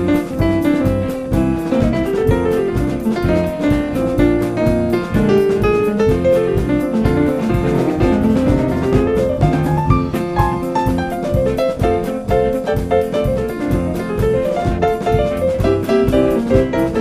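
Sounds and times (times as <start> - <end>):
bass guitar: 0.0 - 17.0
drum kit steady beat: 0.0 - 17.0
piano lines: 0.0 - 17.0.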